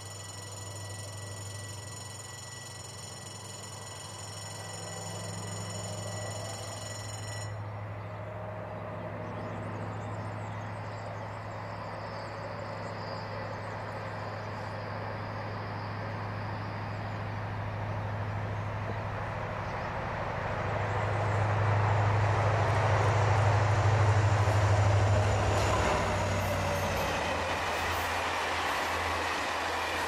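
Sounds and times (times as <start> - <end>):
distant locomotive engine drone: 0.0 - 30.0.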